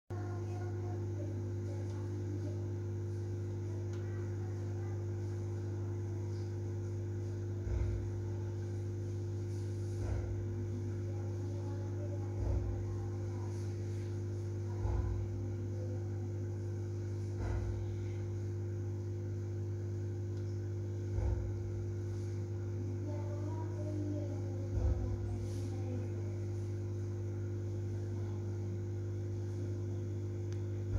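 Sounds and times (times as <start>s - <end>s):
aquarium pump humming: 0.1s - 30.9s.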